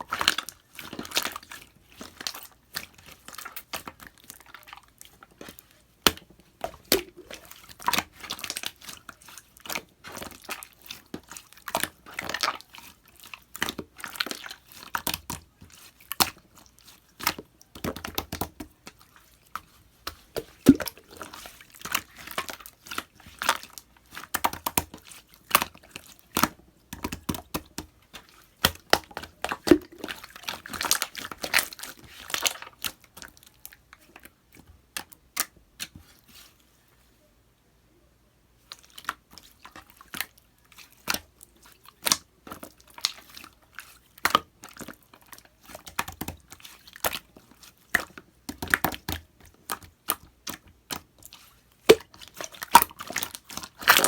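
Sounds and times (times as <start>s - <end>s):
slime squelching and popping: 0.0s - 36.4s, 38.7s - 54.0s.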